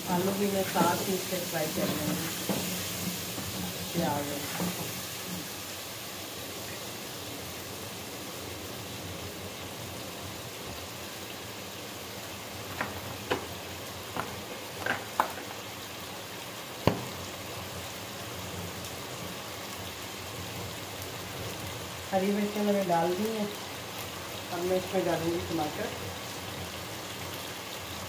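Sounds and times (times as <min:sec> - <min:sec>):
potatoes and onions frying in oil: 0:00.0 - 0:28.0.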